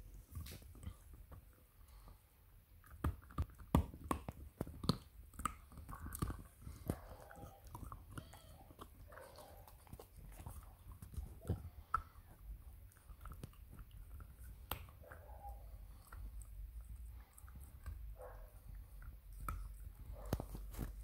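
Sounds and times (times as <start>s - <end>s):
dog chewing a bone: 0.2s - 21.0s.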